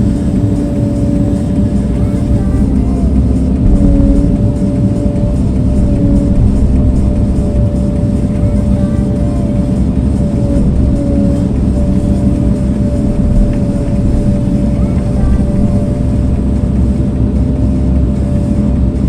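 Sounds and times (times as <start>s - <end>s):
machine low rumble: 0.0s - 19.0s
wavering machine whine: 0.0s - 19.0s.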